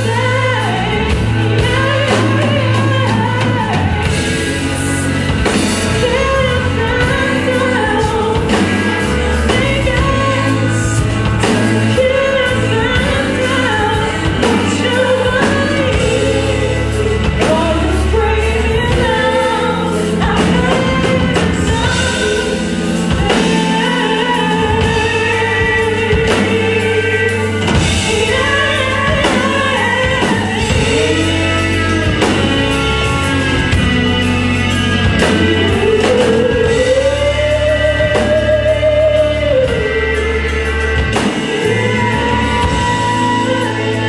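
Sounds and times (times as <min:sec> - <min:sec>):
bass line: 0:00.0 - 0:44.0
woman singing pop song: 0:00.0 - 0:44.0.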